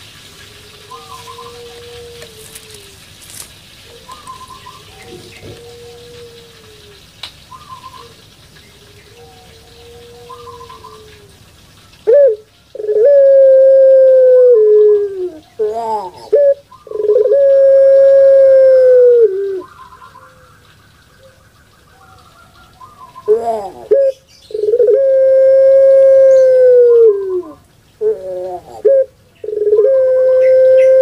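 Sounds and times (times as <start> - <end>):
dove cooing loudly: 0.1 - 3.0, 3.8 - 20.5, 22.0 - 31.0.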